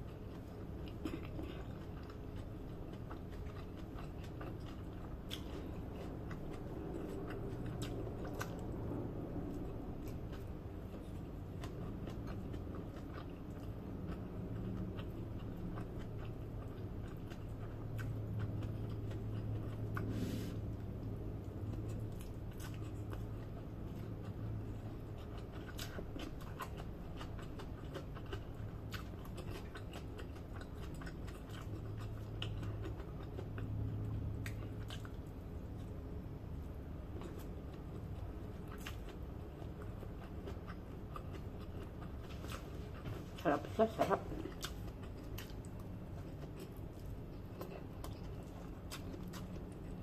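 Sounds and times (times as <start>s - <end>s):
chewing food: 0.0s - 50.0s
steady low hum: 0.0s - 50.0s.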